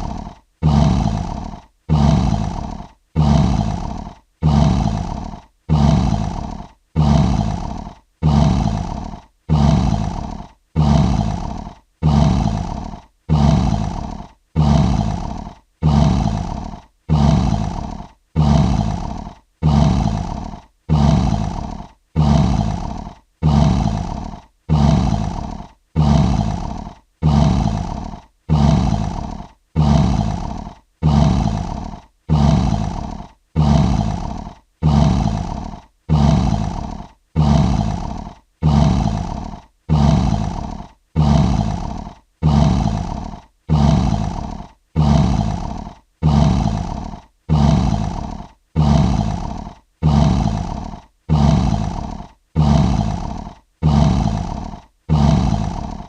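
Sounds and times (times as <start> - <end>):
lion roaring: 0.0 - 56.0.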